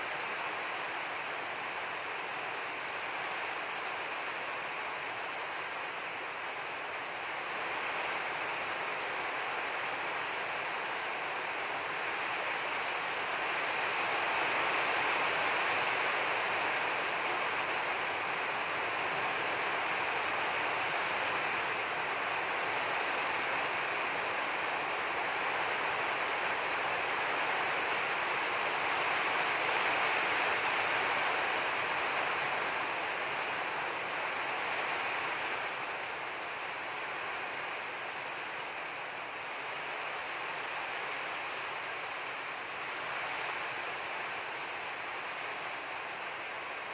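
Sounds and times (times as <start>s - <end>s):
steady rushing hiss: 0.0s - 46.9s.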